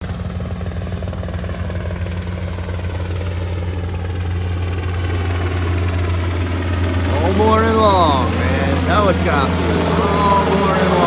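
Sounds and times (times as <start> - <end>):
helicopter rotor beating: 0.0 - 11.0
low engine hum: 0.0 - 11.0.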